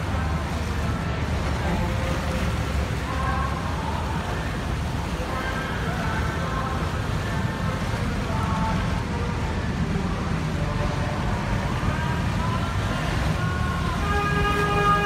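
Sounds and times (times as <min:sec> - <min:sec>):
motorboat engine droning: 0:00.0 - 0:15.0
water rushing along hull: 0:00.0 - 0:15.0.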